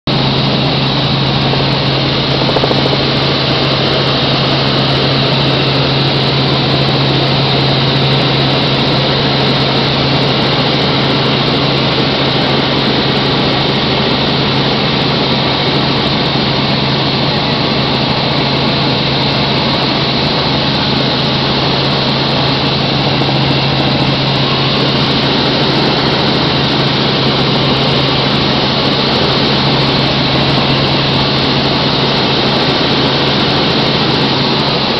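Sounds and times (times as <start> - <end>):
helicopter engine and rotor noise: 0.1 - 34.9.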